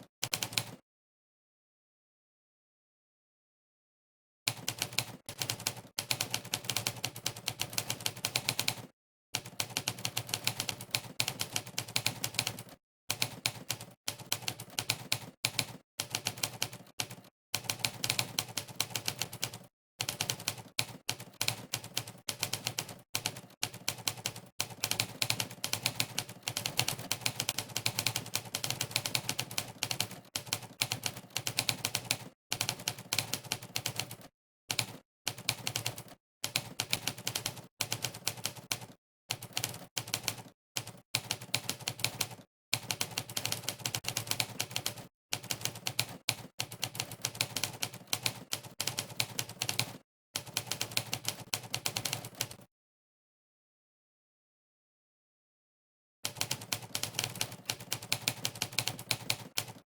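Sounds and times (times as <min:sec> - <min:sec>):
typewriter keystroke clacks: 0:04.5 - 0:52.6, 0:56.3 - 0:59.8.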